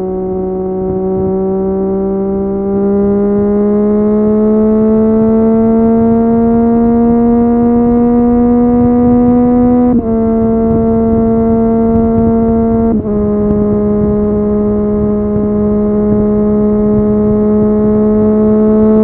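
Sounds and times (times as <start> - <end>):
motorcycle engine under load: 0.0 - 19.0.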